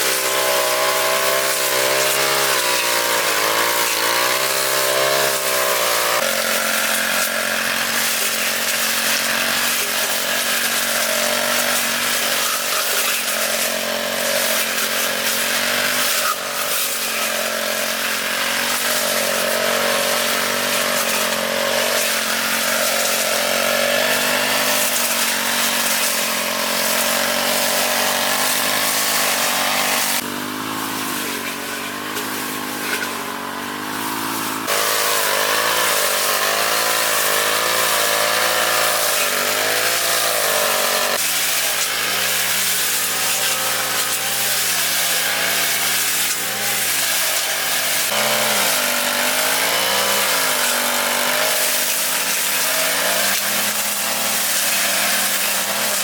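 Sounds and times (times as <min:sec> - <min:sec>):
grass cutter engine running: 0:00.0 - 0:56.0.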